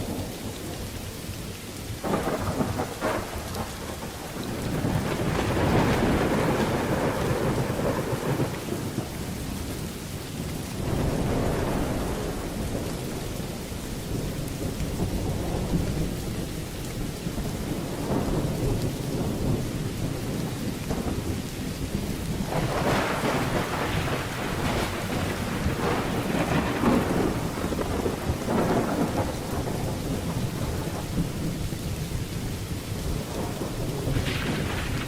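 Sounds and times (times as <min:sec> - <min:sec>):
low rolling thunder: 0:00.0 - 0:35.0
steady rain: 0:00.0 - 0:35.0.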